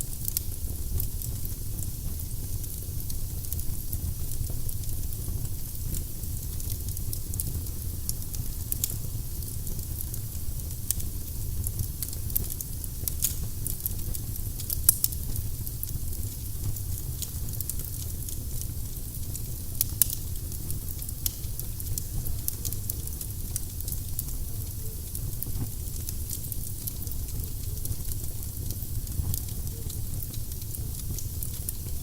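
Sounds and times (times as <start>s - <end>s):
firewood crackling in fireplace: 0.0s - 32.0s.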